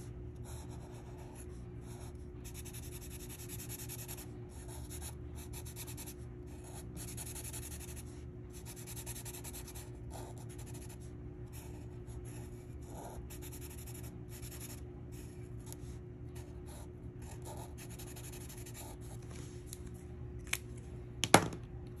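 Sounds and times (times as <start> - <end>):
marker scratching on paper: 0.4 - 19.2.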